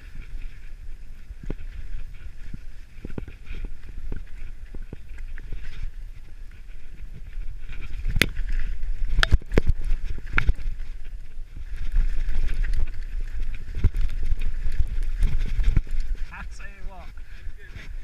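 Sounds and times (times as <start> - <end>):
bike knocking and rattling: 0.0 - 16.4
bike tyres rumbling on trail: 0.0 - 18.0.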